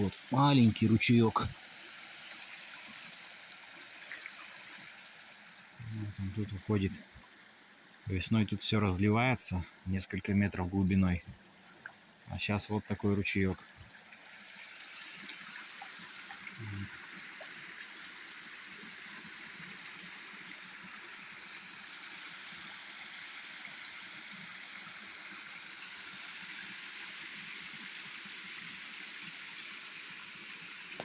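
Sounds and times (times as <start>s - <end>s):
water running over dam: 0.0s - 31.0s.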